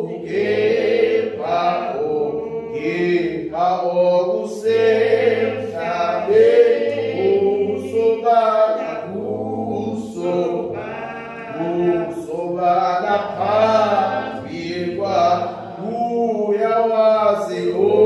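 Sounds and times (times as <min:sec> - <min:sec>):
congregation singing a hymn: 0:00.0 - 0:18.0.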